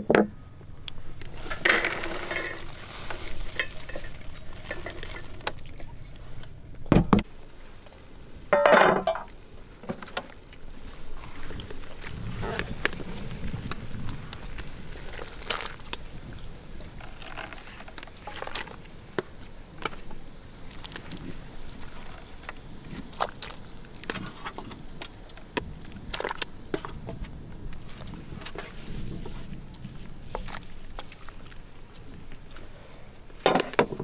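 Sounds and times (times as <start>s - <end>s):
insect chirping: 0.0s - 34.0s.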